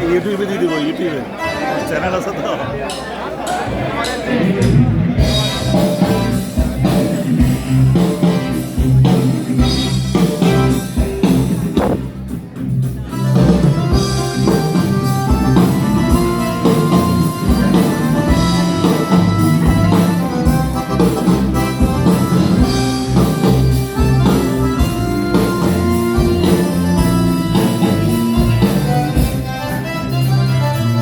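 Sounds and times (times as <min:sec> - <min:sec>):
live band playing: 0:00.0 - 0:31.0.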